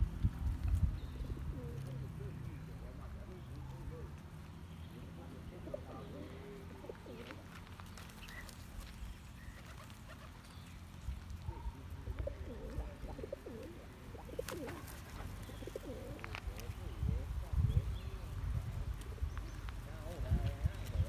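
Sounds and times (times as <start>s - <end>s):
pigeons cooing: 1.0s - 21.0s.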